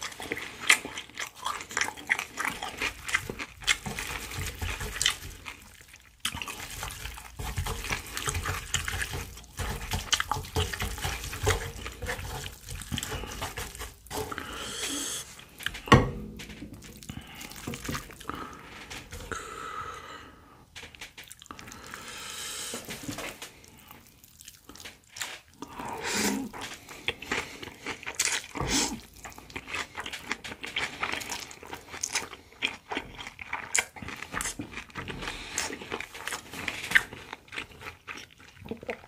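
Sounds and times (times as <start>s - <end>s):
noodles slurped: 0.0s - 15.8s, 21.3s - 39.0s
wet chewing with crunches: 0.0s - 39.0s.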